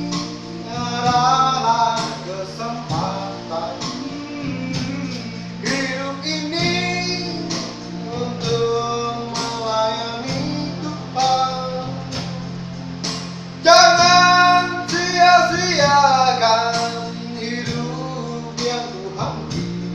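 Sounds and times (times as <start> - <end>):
low held instrumental notes: 0.0 - 19.9.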